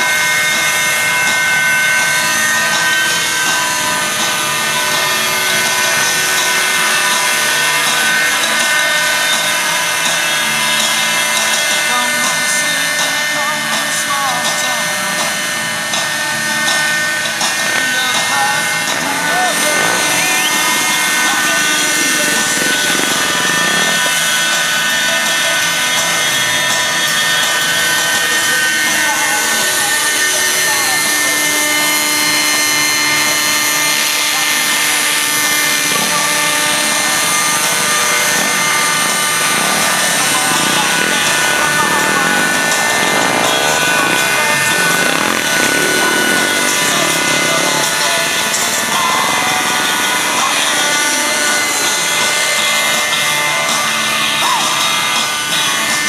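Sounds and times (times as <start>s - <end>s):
model helicopter high-pitched whine: 0.0s - 56.0s.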